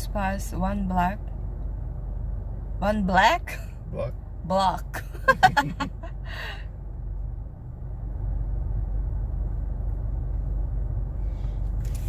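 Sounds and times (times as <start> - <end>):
car idling low rumble: 0.0 - 12.0.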